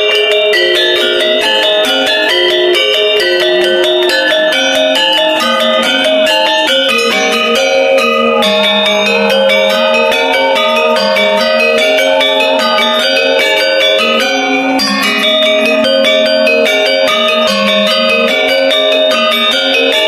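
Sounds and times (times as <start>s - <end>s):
metallophones interlocking ringing tones: 0.0s - 20.0s.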